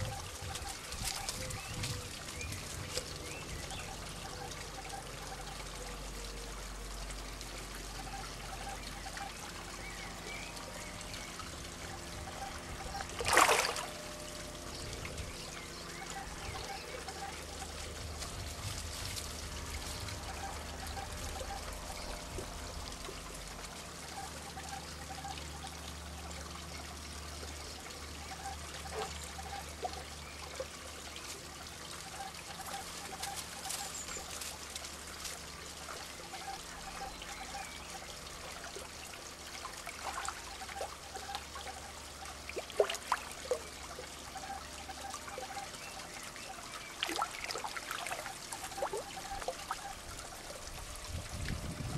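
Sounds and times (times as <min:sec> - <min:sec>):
low steady hum: 0:00.0 - 0:51.9
water trickling into a pond: 0:00.0 - 0:51.9.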